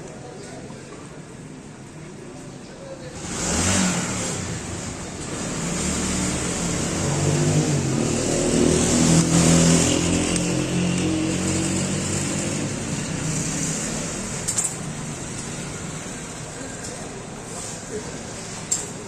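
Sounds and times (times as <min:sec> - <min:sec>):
vehicle engine running: 0:03.2 - 0:19.0.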